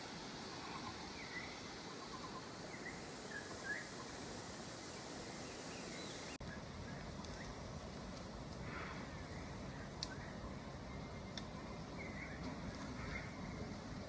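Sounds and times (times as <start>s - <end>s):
insects humming: 0.0s - 14.0s
birds chirping: 0.4s - 4.2s, 4.9s - 7.6s, 9.0s - 14.0s.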